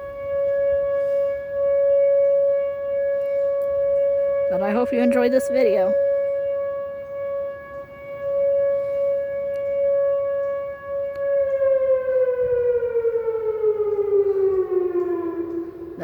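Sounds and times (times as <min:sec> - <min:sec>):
outdoor warning siren steady tone: 0:00.0 - 0:16.0.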